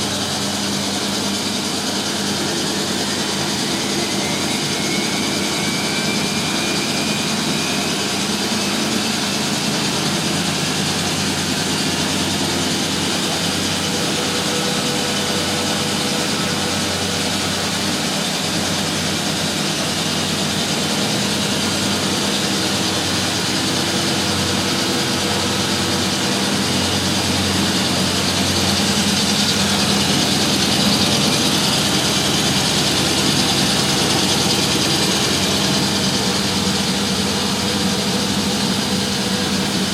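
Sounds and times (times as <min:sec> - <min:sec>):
washing machines spinning: 0:00.0 - 0:39.9.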